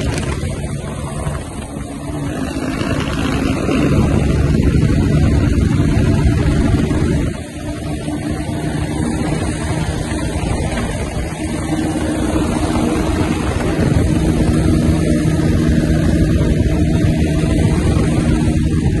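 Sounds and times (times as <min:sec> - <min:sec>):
motorcycle engine running: 0:00.0 - 0:19.0
second motorcycle alongside: 0:00.0 - 0:19.0
wind rush: 0:00.0 - 0:19.0.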